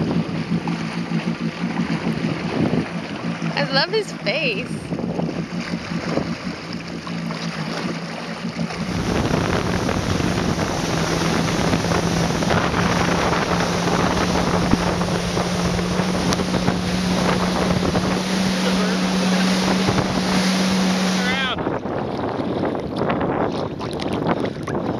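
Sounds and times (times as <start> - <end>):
jet ski engine humming: 0.0 - 24.9
wind rushing over microphone: 1.8 - 7.0, 8.5 - 24.9.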